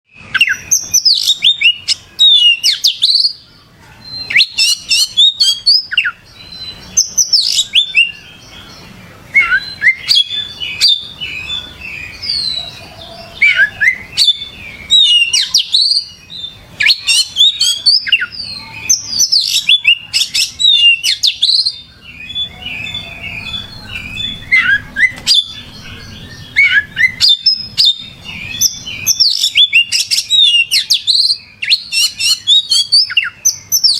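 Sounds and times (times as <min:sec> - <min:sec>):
bird singing whistles and chatter: 0:00.1 - 0:33.9.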